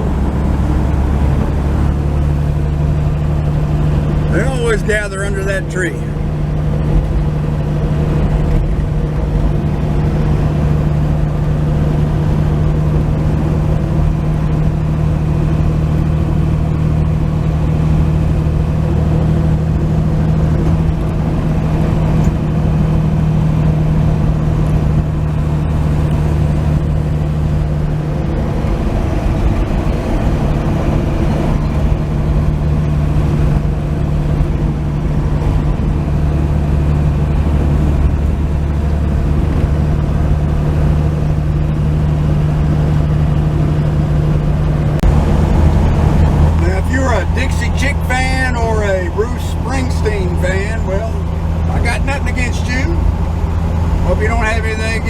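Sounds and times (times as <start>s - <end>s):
pickup truck engine drone: 0.0s - 55.0s
road noise: 0.0s - 55.0s.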